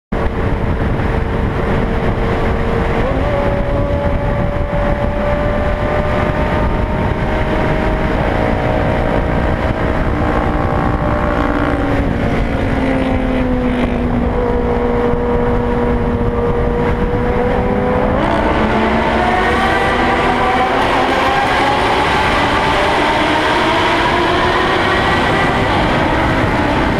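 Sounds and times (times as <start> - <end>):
vehicle rumble with whining tones: 0.1 - 26.9.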